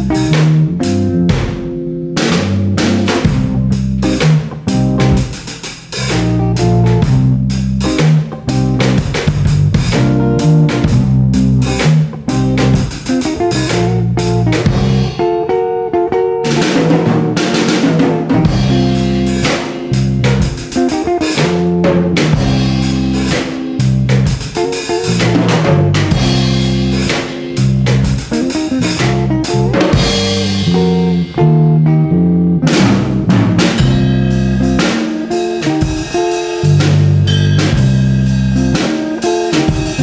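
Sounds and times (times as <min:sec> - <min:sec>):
music with drums and guitar: 0:00.0 - 0:40.0.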